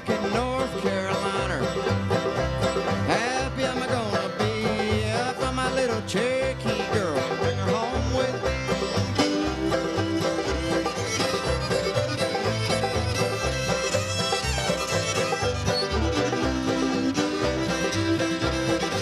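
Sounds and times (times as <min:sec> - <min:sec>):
banjo and guitar rhythm: 0:00.0 - 0:19.0
fiddle melody: 0:00.0 - 0:19.0.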